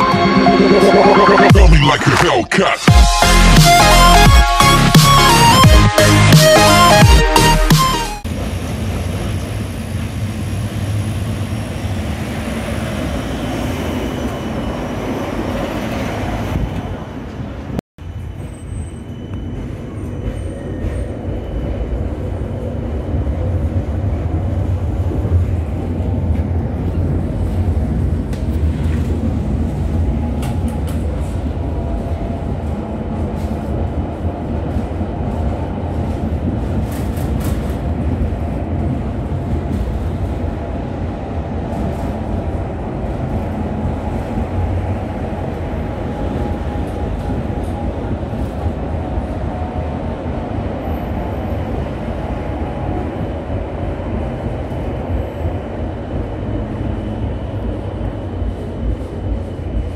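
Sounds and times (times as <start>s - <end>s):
tram wheels rumbling: 8.2s - 59.9s.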